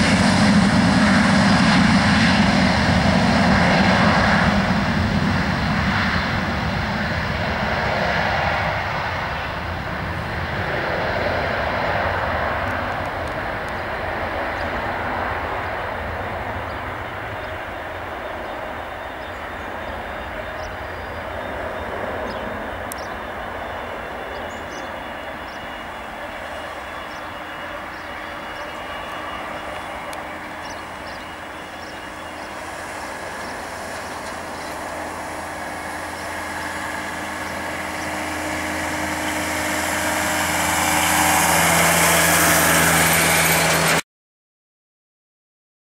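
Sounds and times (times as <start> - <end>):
jet engines at takeoff power: 0.0 - 44.0.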